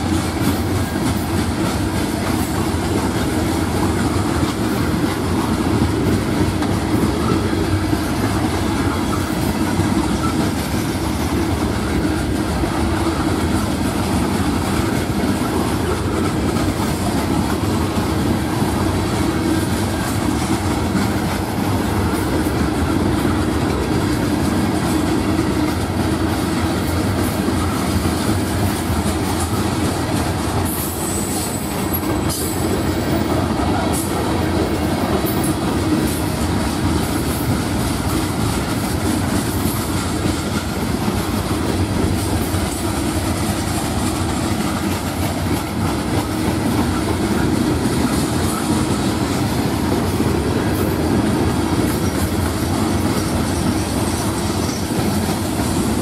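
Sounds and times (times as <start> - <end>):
steel wheels clicking over rail joints: 0.0 - 56.0.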